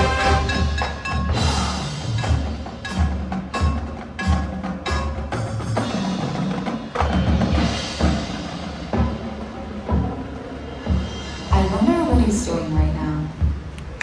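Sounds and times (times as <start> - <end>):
marching band music: 0.0 - 14.0.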